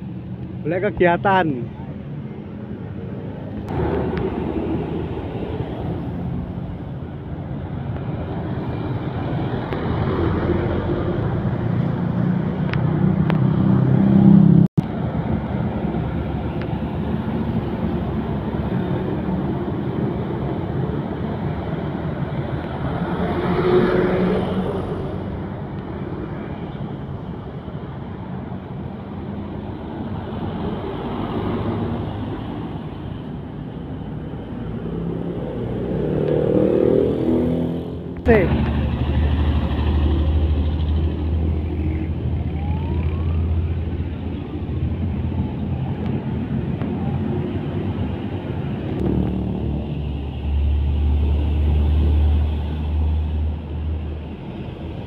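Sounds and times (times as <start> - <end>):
trucks and motorcycles passing: 0.0 - 55.0
heavy vehicle passing: 2.8 - 27.4, 29.2 - 55.0.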